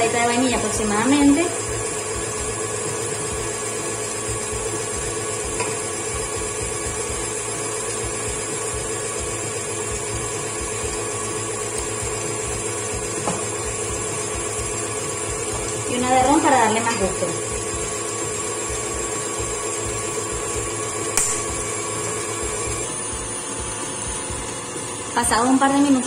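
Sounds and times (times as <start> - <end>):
stand mixer whisking: 0.0 - 26.0.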